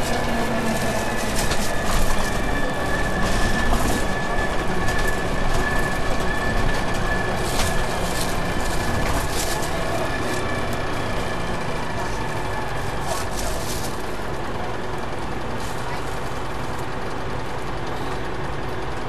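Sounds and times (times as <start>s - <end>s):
bus running noise: 0.0s - 19.0s.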